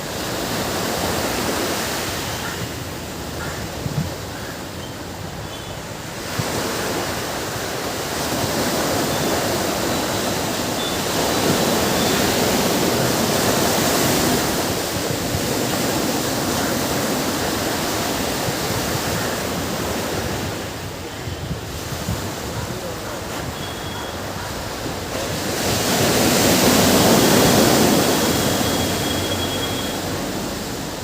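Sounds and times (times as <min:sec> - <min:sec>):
ocean surf washing onto beach: 0:00.0 - 0:31.0.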